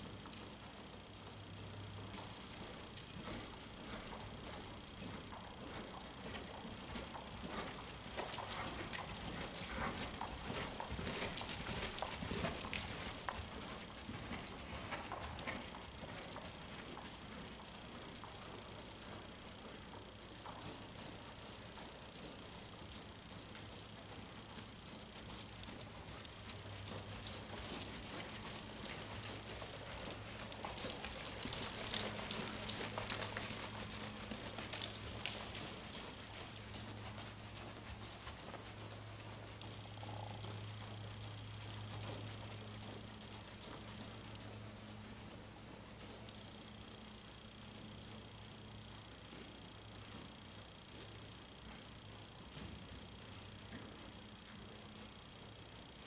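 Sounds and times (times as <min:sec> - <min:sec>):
horse hoofbeats on dirt: 0:00.0 - 0:56.0
steady low hum: 0:00.0 - 0:56.0.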